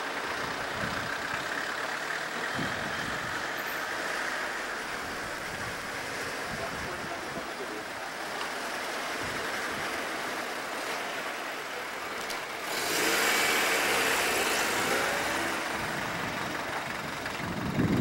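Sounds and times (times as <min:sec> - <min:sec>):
traffic passing: 0:00.0 - 0:18.0
vehicle engine running: 0:00.0 - 0:18.0.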